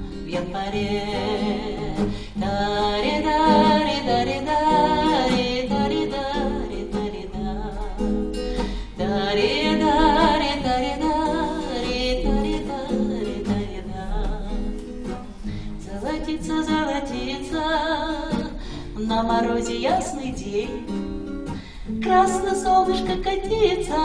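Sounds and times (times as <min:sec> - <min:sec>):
classical guitar: 0:00.0 - 0:24.0
woman singing: 0:00.0 - 0:24.0.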